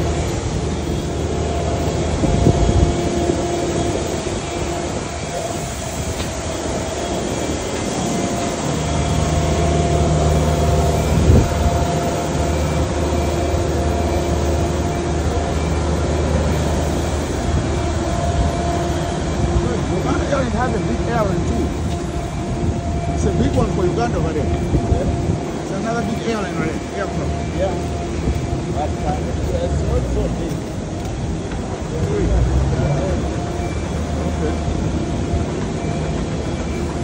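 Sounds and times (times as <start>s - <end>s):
engines droning: 0.0s - 37.0s.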